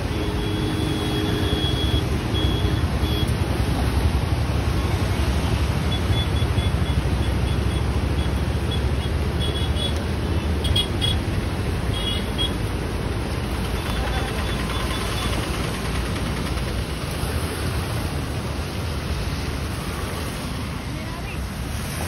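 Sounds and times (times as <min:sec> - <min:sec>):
road traffic: 0:00.0 - 0:22.0
rushing floodwater: 0:00.0 - 0:22.0.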